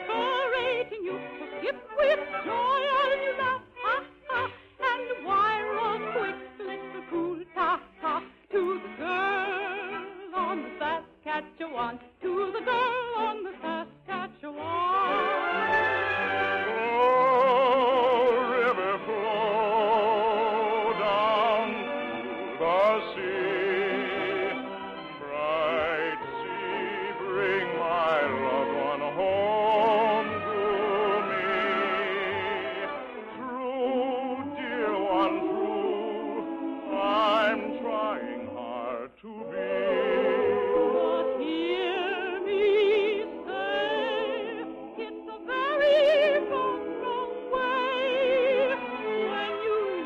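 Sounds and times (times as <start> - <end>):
operetta singing with vibrato: 0.0 - 50.0
orchestral accompaniment: 0.0 - 50.0.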